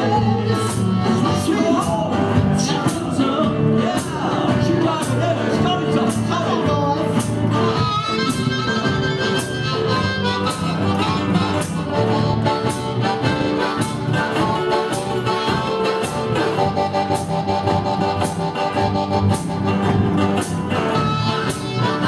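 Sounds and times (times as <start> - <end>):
drum kit beat: 0.0 - 22.0
guitars: 0.0 - 22.0.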